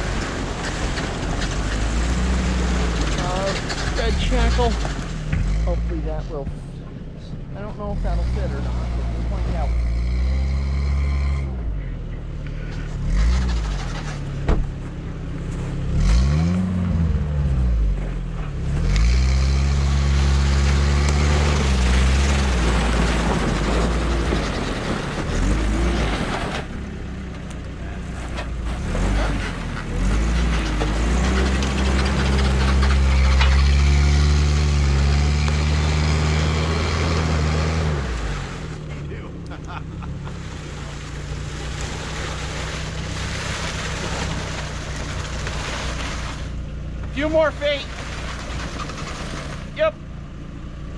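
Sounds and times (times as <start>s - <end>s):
truck engine revving: 0.0s - 50.9s.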